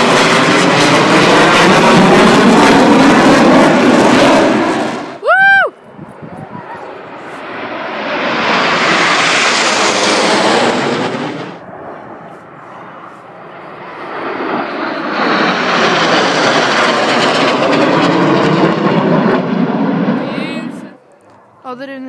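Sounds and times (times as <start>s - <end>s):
jet aircraft engine roar: 0.0s - 21.8s.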